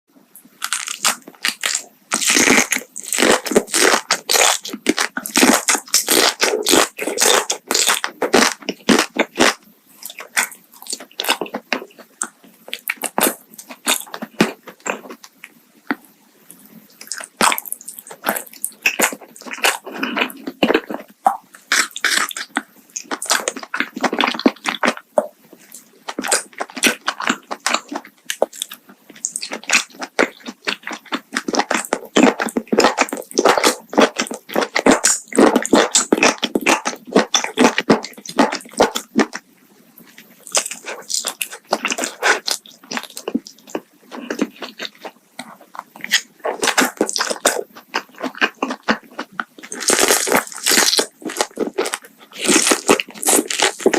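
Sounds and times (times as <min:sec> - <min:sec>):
crunchy food chewing: 0:00.6 - 0:53.9.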